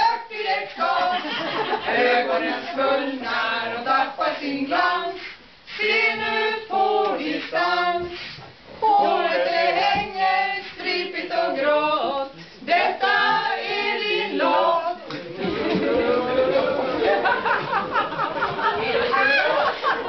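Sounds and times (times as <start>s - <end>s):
group of people singing: 0.0s - 20.0s.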